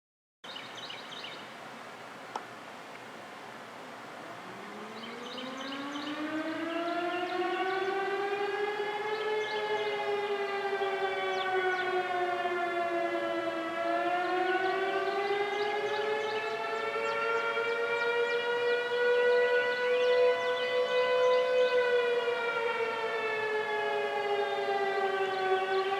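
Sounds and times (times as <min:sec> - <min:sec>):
mechanical siren wailing: 0:04.4 - 0:25.9
second siren steady chord: 0:04.4 - 0:25.9.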